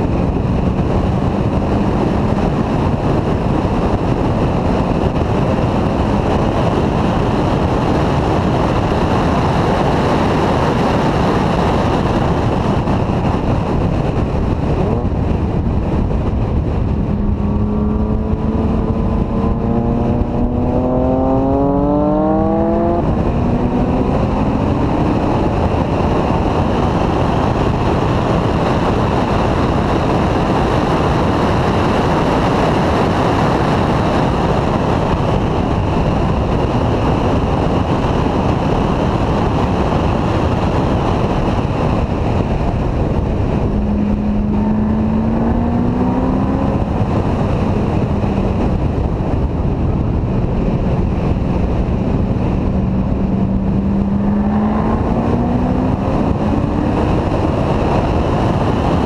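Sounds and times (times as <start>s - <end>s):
car engine accelerating: 0.0s - 33.6s, 41.2s - 59.0s
tyre and road noise: 0.0s - 59.0s
wind rushing over microphone: 0.0s - 59.0s.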